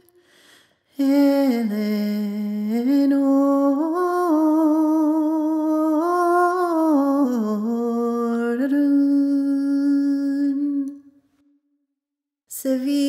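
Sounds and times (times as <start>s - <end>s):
woman singing unaccompanied: 1.0s - 11.1s, 12.5s - 13.0s.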